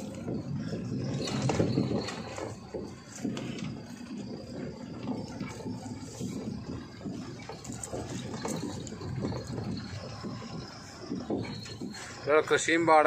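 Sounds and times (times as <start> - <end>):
truck running noise: 0.0 - 13.0.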